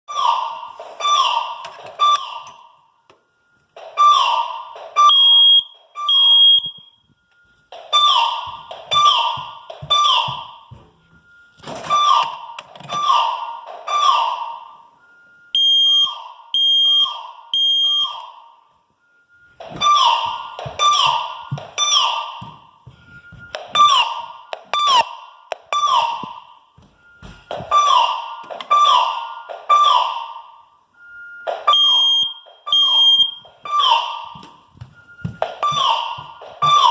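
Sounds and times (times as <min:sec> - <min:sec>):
fire alarm tones: 0:00.1 - 0:36.9
smoke detector beep: 0:00.1 - 0:36.9.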